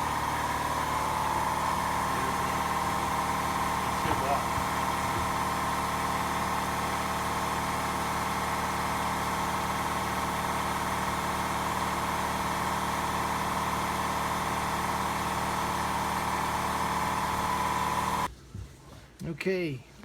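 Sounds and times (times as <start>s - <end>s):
machine droning hum: 0.0s - 18.3s.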